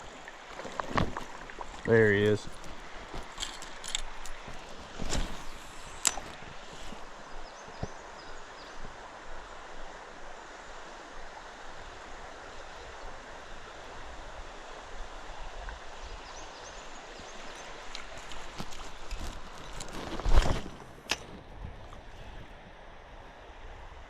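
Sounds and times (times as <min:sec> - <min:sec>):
creek water running: 0:00.0 - 0:23.8.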